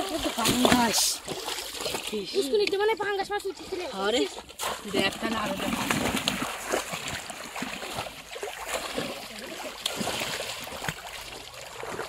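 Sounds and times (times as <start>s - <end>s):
wading through shallow water: 0.0s - 12.0s.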